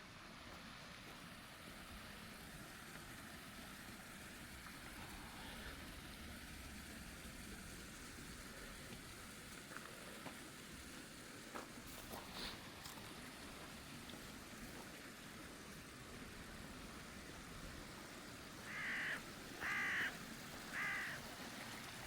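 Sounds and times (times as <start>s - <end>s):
rushing hiss outdoors: 0.0s - 22.0s.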